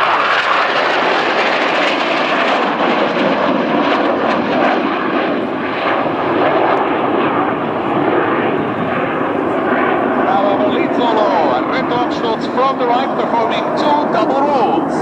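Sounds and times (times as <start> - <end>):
jet fighters roaring: 0.0 - 15.0.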